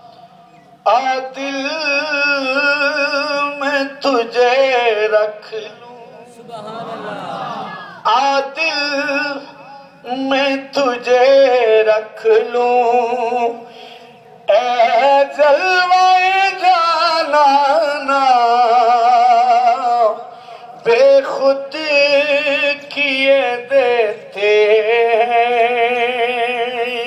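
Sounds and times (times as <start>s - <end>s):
man singing into microphone: 0.8s - 6.8s, 8.0s - 13.7s, 14.5s - 27.0s.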